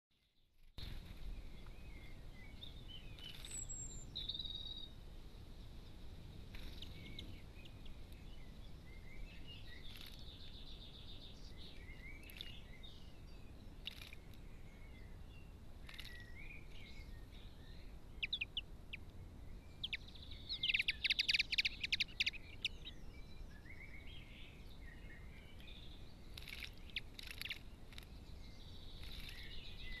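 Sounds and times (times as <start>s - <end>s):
birds chirping and twittering: 0.2s - 30.0s
low background noise: 0.2s - 30.0s.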